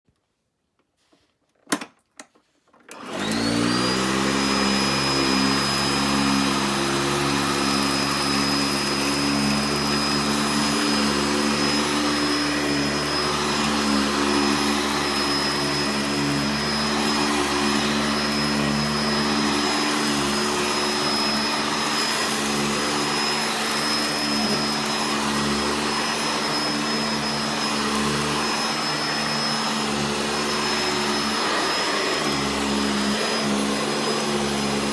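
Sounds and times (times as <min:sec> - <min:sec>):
vacuum cleaner motor whining: 0:02.9 - 0:34.9.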